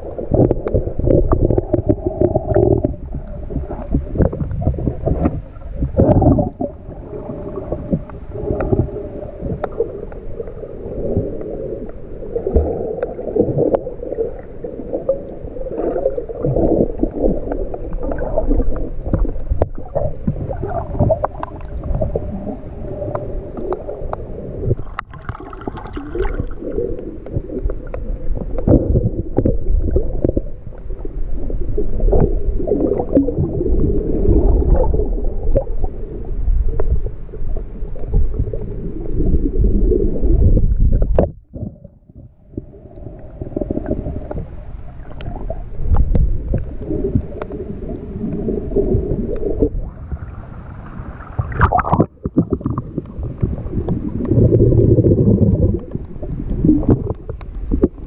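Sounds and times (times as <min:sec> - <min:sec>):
muffled underwater rumbling and gurgling: 0:00.0 - 0:58.0.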